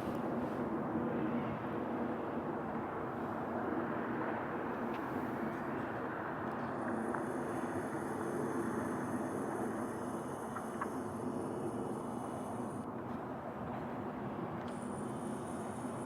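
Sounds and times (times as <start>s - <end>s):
faint high whine: 1.1s - 12.9s, 13.9s - 16.0s.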